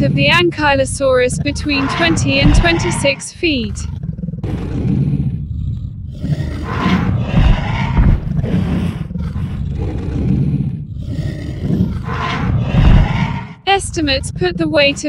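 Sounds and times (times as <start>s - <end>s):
low dinosaur roars: 1.1s - 13.6s.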